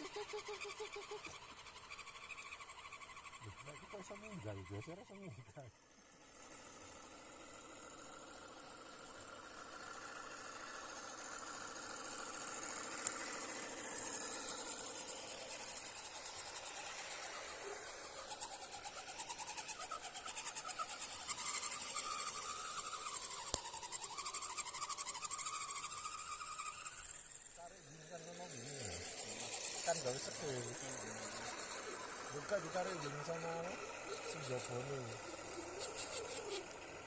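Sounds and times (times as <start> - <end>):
rc car motor whining: 0.0 - 37.0.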